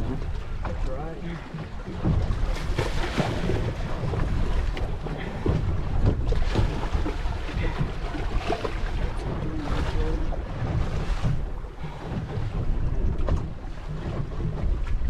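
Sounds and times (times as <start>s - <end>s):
waves sloshing around boat: 0.0s - 15.0s
wind buffeting microphone: 0.0s - 15.0s.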